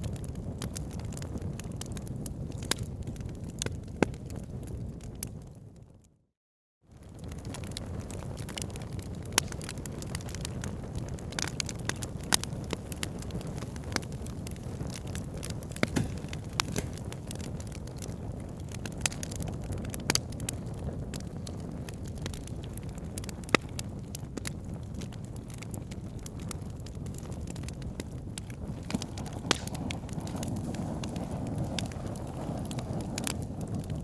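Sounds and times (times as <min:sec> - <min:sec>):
wood fire burning: 0:00.0 - 0:05.6, 0:06.9 - 0:34.0.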